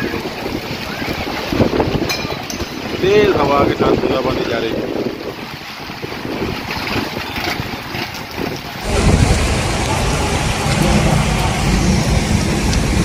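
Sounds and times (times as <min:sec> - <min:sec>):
cars driving through flooded street: 0:00.0 - 0:13.0
rain falling: 0:00.0 - 0:13.0
wind buffeting microphone: 0:00.0 - 0:13.0.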